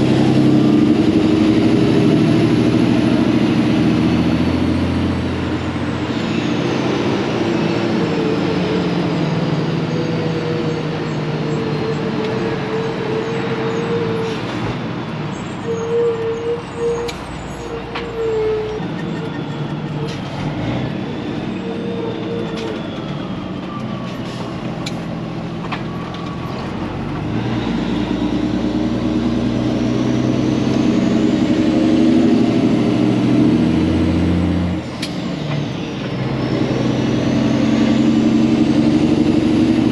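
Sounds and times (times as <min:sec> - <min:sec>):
diesel truck engine whining: 0:00.0 - 0:39.9.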